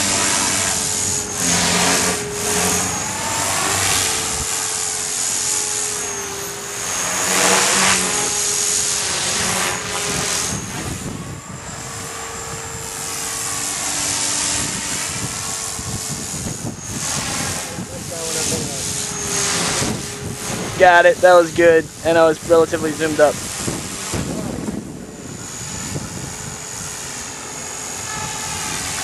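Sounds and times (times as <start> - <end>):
rc helicopter engine whine: 0.0 - 29.0.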